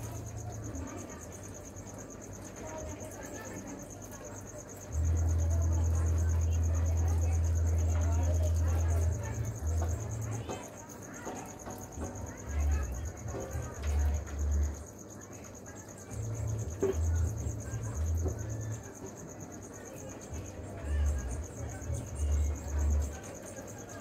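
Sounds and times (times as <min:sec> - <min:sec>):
high-pitched insect trill: 0:00.0 - 0:24.0.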